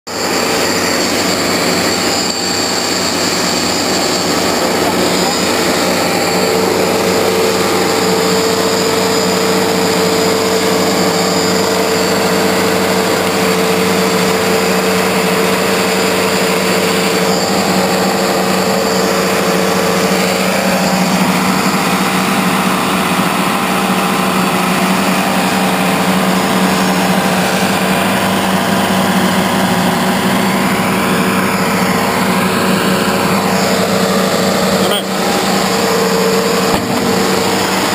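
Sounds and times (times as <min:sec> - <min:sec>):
bandsaw mill humming: 0:00.1 - 0:37.9.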